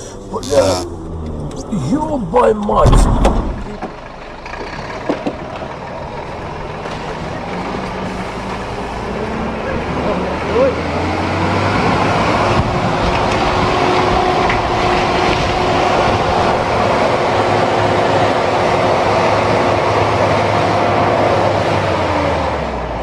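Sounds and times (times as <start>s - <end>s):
vehicle running rumble: 0.0s - 23.0s.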